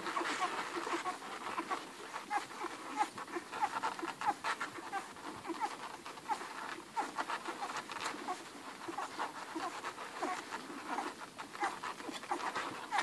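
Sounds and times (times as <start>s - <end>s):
puppies squeaking and grunting: 0.0s - 13.0s.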